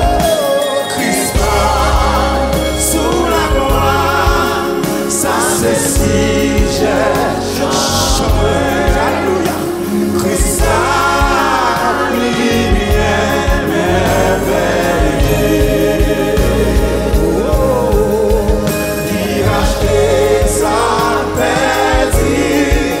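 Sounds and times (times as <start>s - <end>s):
backing vocalists singing: 0.0s - 23.0s
instrumental accompaniment: 0.0s - 23.0s
lead singer singing gospel: 0.0s - 23.0s.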